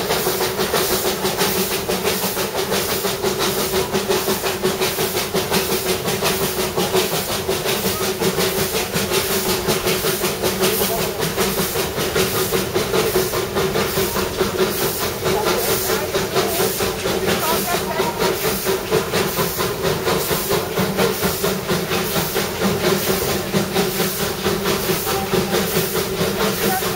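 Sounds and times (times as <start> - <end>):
steady steam hiss: 0.0 - 26.9
steam locomotive chuffing: 0.0 - 26.9.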